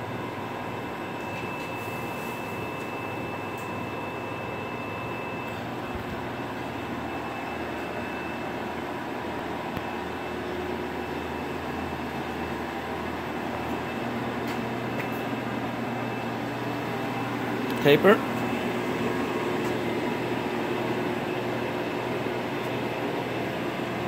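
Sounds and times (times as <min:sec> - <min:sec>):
mechanical drone with low hum: 0:00.0 - 0:24.0.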